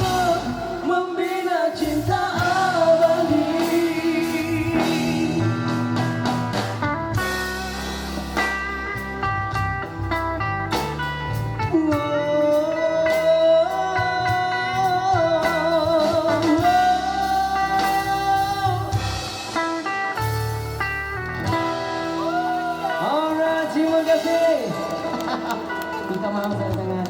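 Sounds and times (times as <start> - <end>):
live band playing pop ballad: 0.0 - 27.0
lead guitar bent notes: 2.3 - 27.0.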